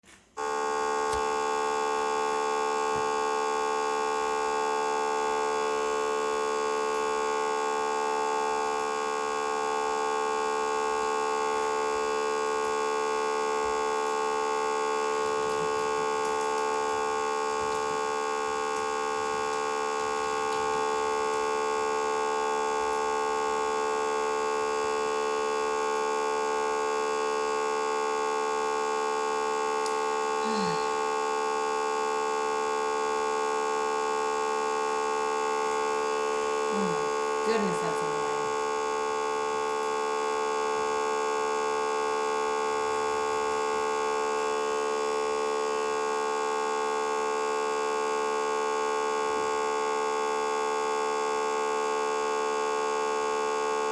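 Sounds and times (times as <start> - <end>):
harsh electronic buzzing tone: 0.1 - 53.9.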